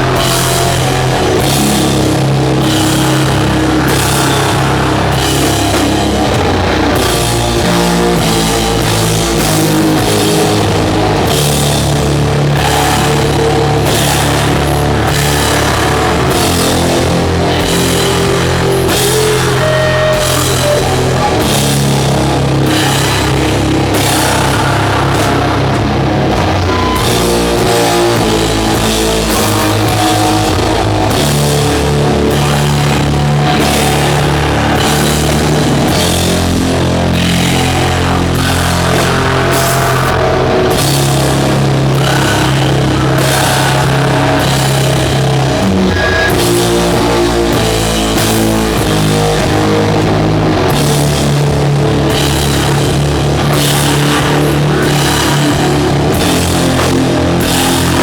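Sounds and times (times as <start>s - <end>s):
distorted guitar and bass chords: 0.0s - 58.0s
drums with cymbal hits: 0.0s - 58.0s.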